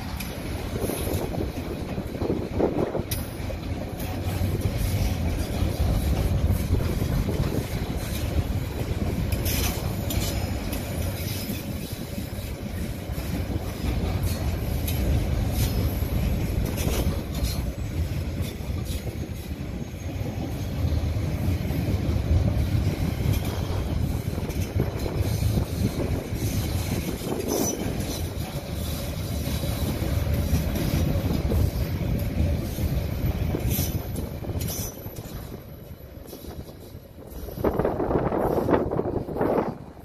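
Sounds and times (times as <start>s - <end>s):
freight train wheels rumbling on track: 0.0s - 40.0s
sharp clacks of wheels on rails: 0.0s - 40.0s.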